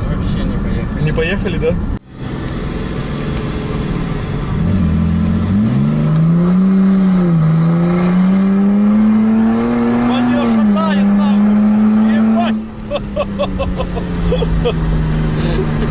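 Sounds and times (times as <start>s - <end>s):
diesel engine accelerating hard: 2.0s - 15.9s.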